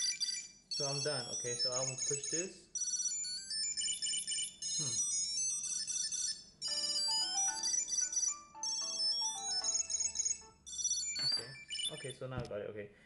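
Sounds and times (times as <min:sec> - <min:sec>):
phone ringtone: 0:00.0 - 0:12.2.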